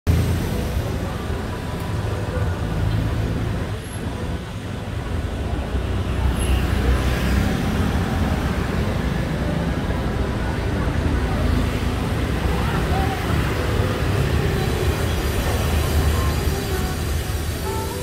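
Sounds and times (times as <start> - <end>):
traffic rumble of passing vehicles: 0.1 - 18.0.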